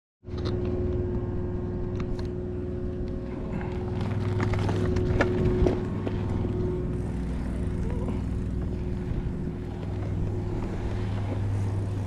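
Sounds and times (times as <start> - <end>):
tyres on pavement: 2.0 - 12.0.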